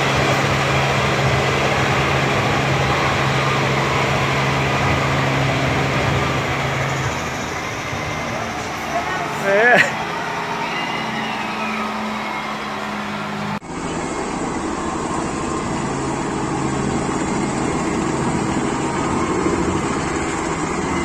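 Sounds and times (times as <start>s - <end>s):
helicopter drone: 0.0s - 21.0s.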